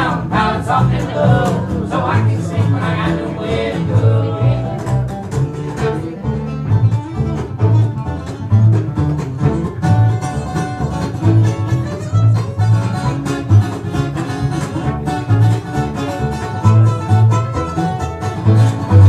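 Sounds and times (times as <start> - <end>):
fiddle: 0.0 - 19.0
rhythmic bass line: 0.0 - 19.0
strummed acoustic guitar: 0.0 - 19.0.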